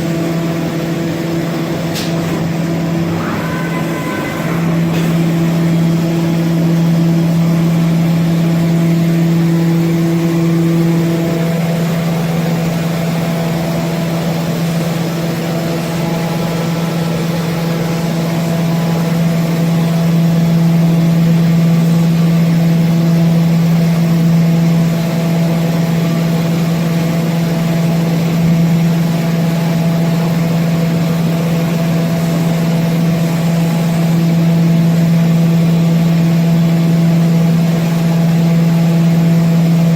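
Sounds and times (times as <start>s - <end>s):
woodworking machine humming: 0.0s - 39.9s.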